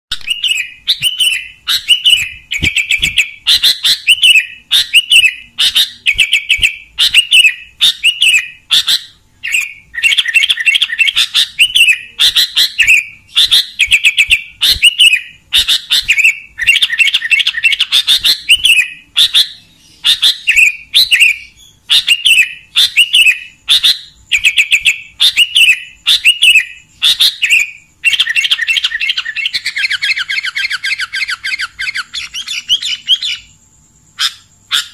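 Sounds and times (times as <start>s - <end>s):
bird singing: 0.1s - 34.9s.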